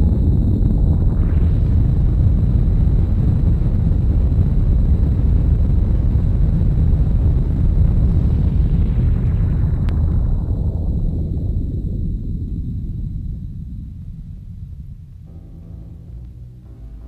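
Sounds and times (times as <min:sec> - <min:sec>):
low rumbling roar: 0:00.0 - 0:17.0.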